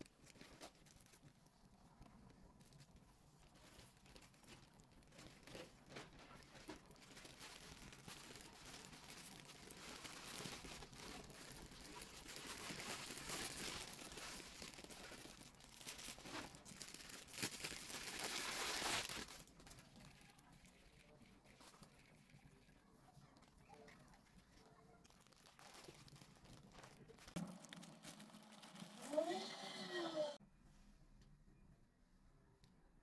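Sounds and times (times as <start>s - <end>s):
plastic packaging crinkling: 0.0s - 1.7s, 2.6s - 22.7s, 23.4s - 29.4s.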